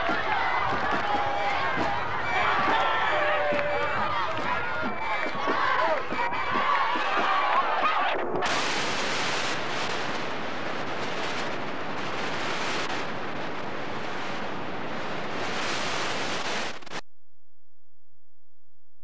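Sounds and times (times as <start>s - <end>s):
videotape static hiss: 0.0s - 17.0s.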